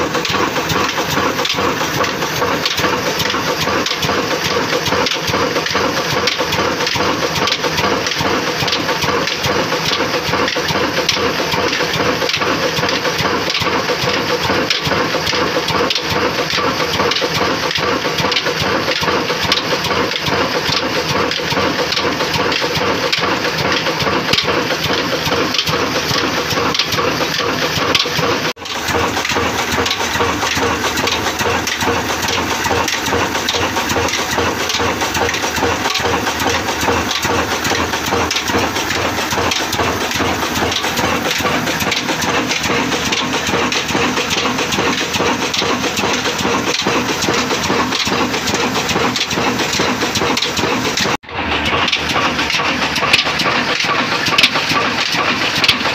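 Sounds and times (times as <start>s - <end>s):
diesel engine clattering: 0.0s - 55.9s.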